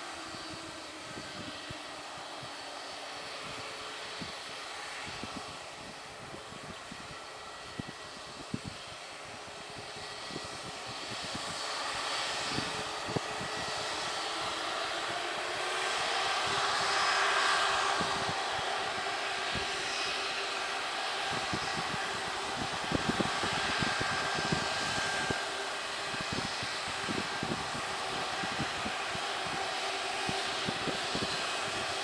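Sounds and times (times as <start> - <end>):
airliner engines roaring: 0.0 - 32.0
faint steady whine: 0.0 - 32.0.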